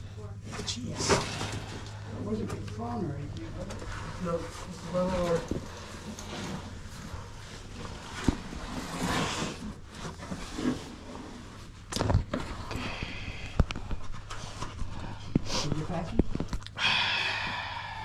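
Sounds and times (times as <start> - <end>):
low rumbling rustle: 0.4 - 16.7.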